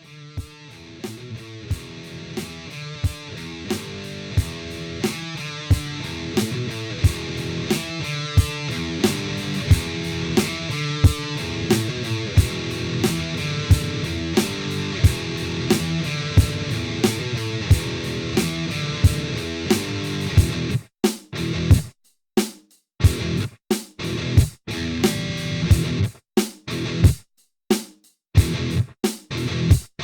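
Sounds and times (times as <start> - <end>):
rock music: 0.0 - 20.8, 21.4 - 21.8, 23.1 - 26.1, 26.7 - 27.1, 28.4 - 29.8.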